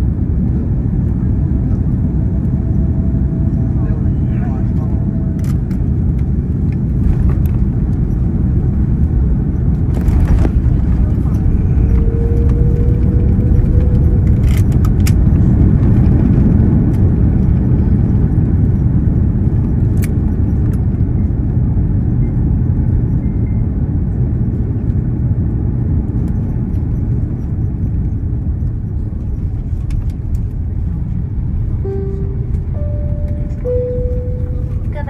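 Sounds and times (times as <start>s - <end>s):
airliner engines and wheels rumbling: 0.0s - 35.0s.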